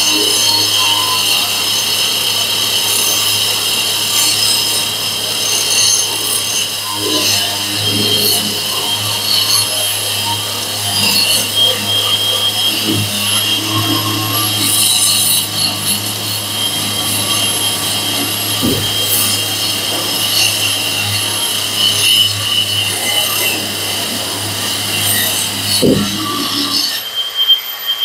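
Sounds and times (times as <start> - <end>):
wall chaser grinding wall: 0.0 - 27.1.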